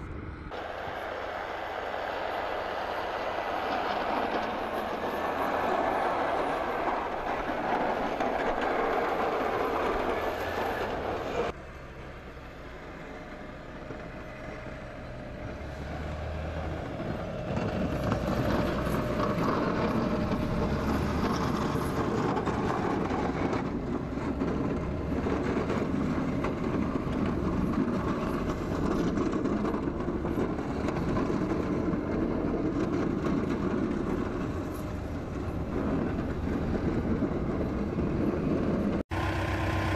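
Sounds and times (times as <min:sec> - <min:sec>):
tractor engine under load: 0:00.5 - 0:39.9.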